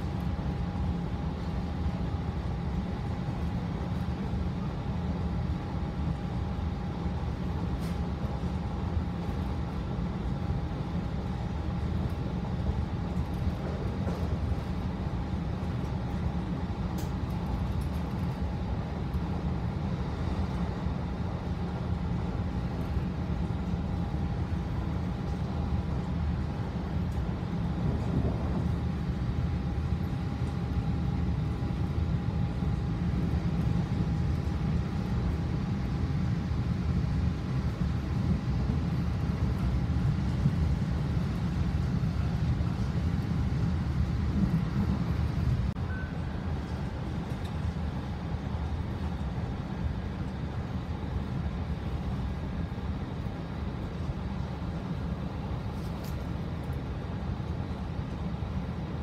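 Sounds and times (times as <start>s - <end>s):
faint steady whine: 0.0s - 59.0s
train rumbling inside carriage: 0.0s - 59.0s.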